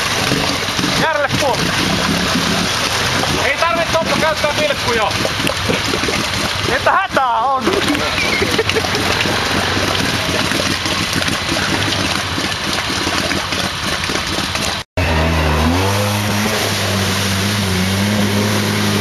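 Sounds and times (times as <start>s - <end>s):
atv engine revving: 0.0s - 19.0s
splashing through muddy water: 0.0s - 19.0s.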